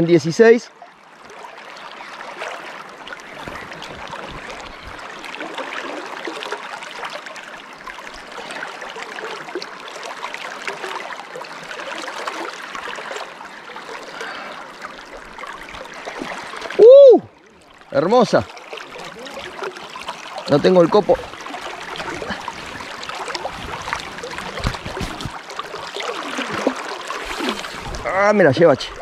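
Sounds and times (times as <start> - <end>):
river water rushing over stones: 1.2 - 29.0.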